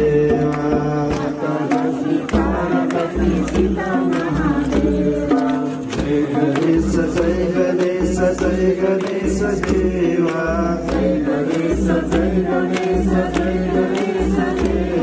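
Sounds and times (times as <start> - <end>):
group singing a chant: 0.0 - 15.0
sharp percussive strikes: 0.0 - 15.0.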